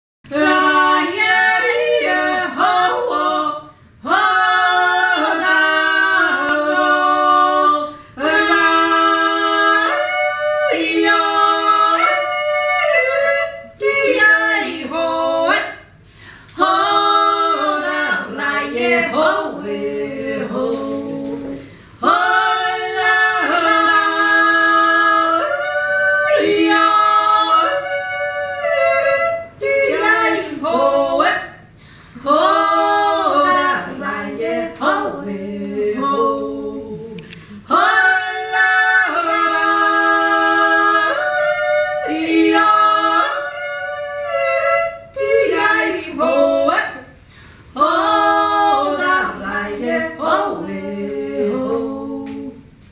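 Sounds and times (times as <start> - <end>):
women yodeling: 0.3 - 15.9, 16.6 - 31.6, 32.2 - 47.2, 47.8 - 52.8.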